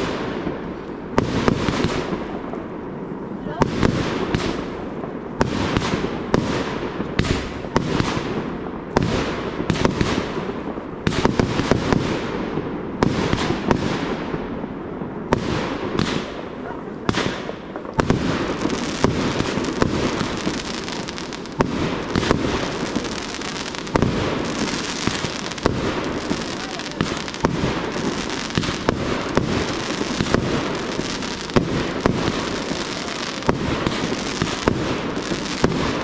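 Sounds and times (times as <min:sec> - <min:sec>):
fireworks launching and bursting: 0:00.0 - 0:36.0.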